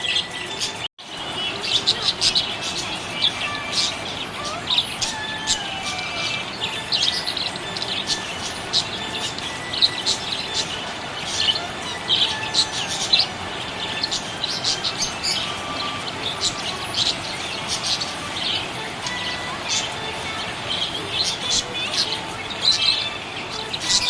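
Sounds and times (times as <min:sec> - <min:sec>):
budgerigars chirping: 0:00.0 - 0:24.0.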